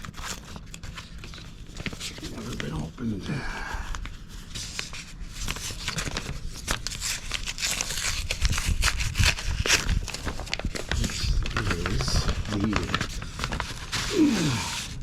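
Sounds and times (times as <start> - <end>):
envelope tearing: 0.0 - 3.1, 3.7 - 15.0
paper rustling: 0.0 - 15.0.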